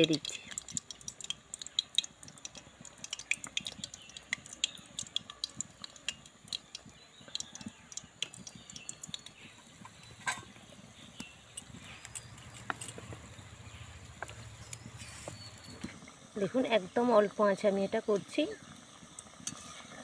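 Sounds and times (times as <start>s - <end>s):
dough sizzling in oil: 0.0s - 20.0s.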